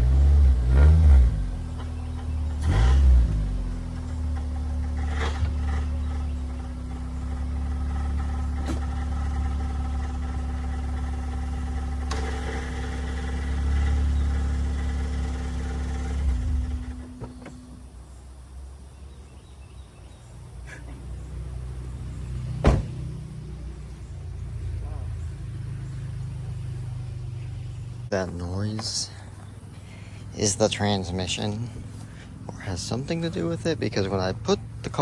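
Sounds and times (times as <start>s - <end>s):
car engine idling with whine: 0.0s - 35.0s.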